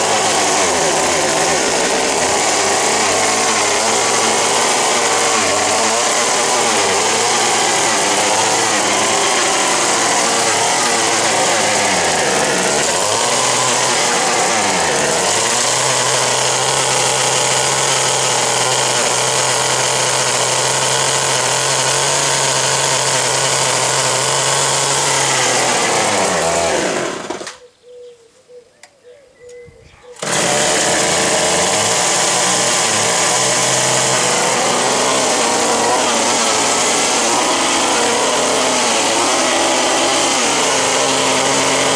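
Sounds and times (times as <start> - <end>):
hedge trimmer engine running: 0.0 - 27.6, 30.2 - 41.9.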